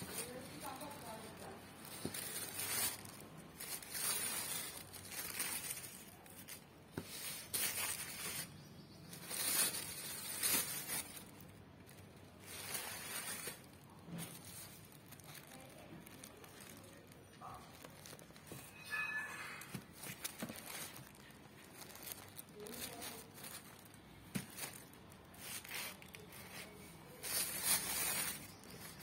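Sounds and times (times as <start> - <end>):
tissue paper rustling: 0.0 - 29.0.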